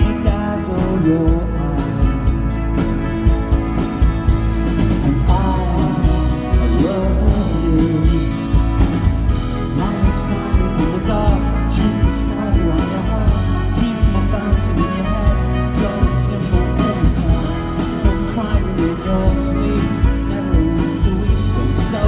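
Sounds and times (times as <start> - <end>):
man singing: 0.0 - 2.5, 4.8 - 22.0
electric guitar: 0.0 - 22.0
keyboards: 0.0 - 22.0
steady drum beat: 0.0 - 22.0.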